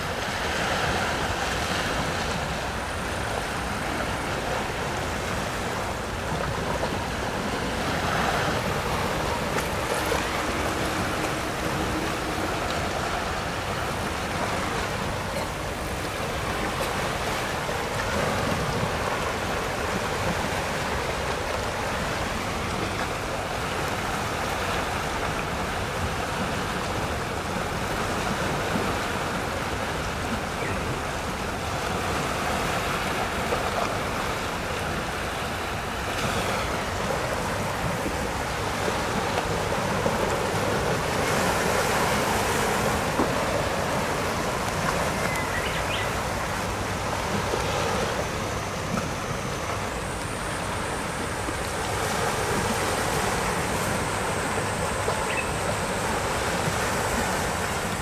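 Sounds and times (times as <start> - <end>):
small waves washing: 0.0 - 58.0.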